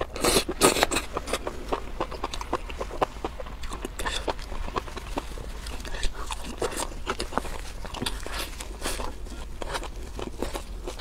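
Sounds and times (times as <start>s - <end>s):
chewing and crunching food: 0.0s - 11.0s.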